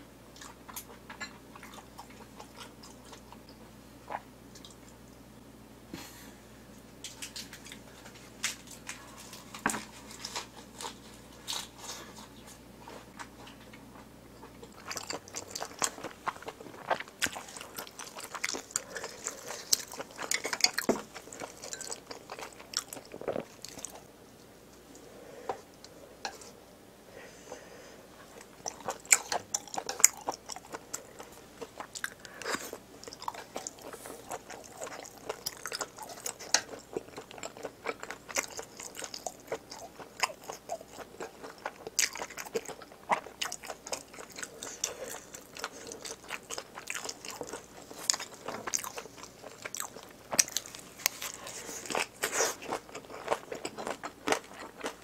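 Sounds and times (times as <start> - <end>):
chewing and crunching: 0.3 - 5.0, 7.0 - 24.1, 28.2 - 55.0.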